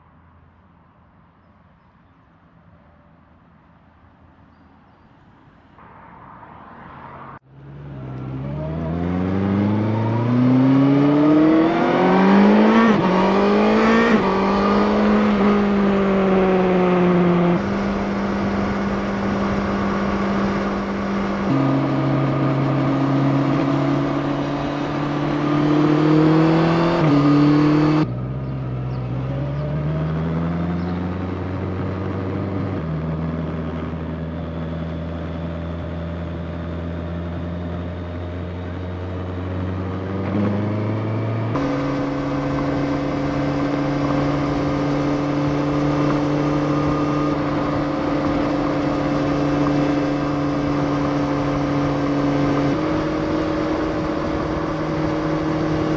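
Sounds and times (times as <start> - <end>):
motorcycle engine accelerating: 7.5 - 55.9.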